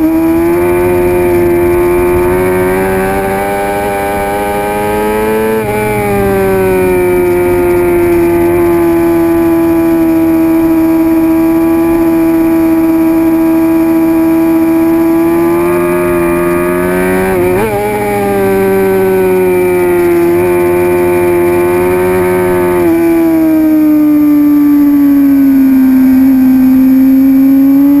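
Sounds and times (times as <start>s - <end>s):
motorcycle engine at high revs: 0.0s - 28.0s.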